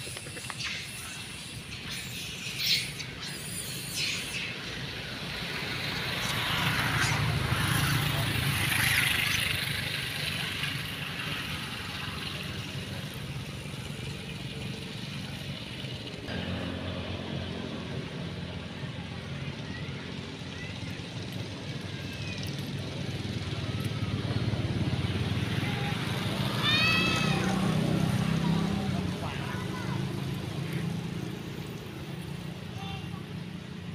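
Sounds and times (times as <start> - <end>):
vehicle engine hum passing: 0.0 - 33.9.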